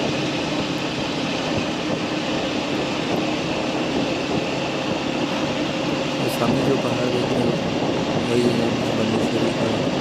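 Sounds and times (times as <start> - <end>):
motorcycle engine hum: 0.0 - 10.0
wind and road noise: 0.0 - 10.0.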